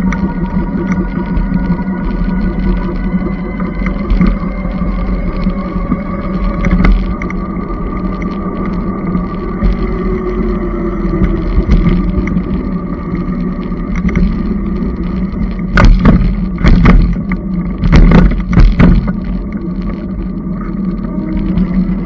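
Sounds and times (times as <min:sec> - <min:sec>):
e-bike motor hum: 0:00.0 - 0:22.0
wheels jolting over railroad tracks: 0:00.0 - 0:22.0
wind and road noise: 0:00.0 - 0:22.0.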